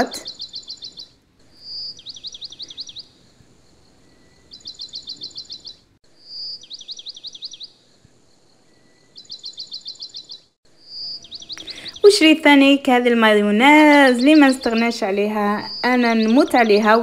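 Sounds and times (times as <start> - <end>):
birdsong whistles and chirps: 0.0 - 7.8, 8.6 - 17.0.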